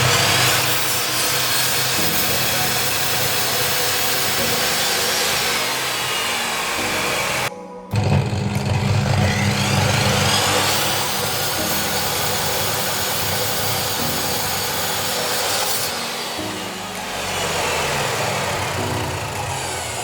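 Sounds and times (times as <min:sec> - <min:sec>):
background music: 0:00.0 - 0:20.0
power saw cutting wood: 0:00.0 - 0:20.0.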